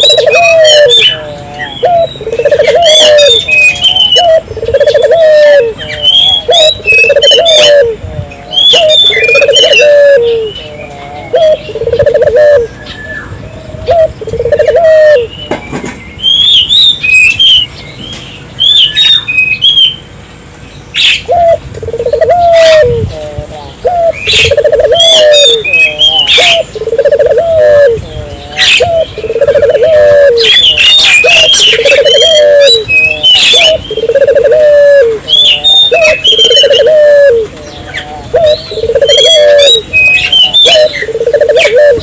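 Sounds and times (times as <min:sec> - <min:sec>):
dove cooing: 0:00.0 - 0:15.3, 0:21.0 - 0:42.0
birds chirping: 0:00.0 - 0:42.0.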